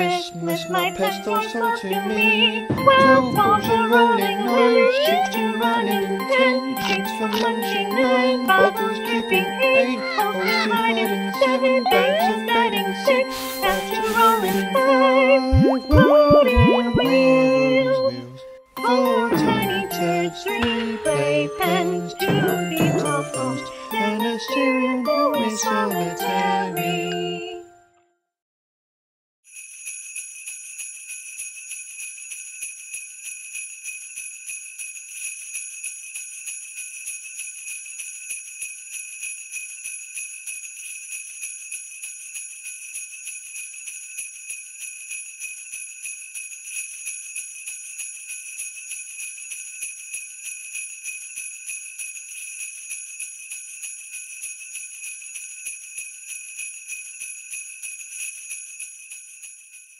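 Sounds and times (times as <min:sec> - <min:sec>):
jingle bells shaken: 0:00.0 - 0:27.1, 0:29.5 - 0:59.9.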